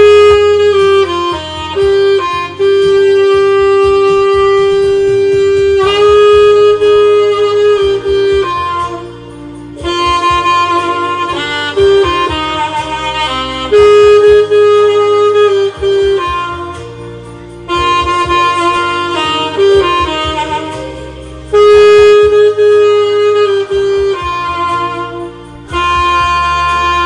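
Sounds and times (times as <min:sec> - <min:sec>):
low accompaniment: 0:00.0 - 0:27.0
saxophone melody: 0:00.0 - 0:27.0.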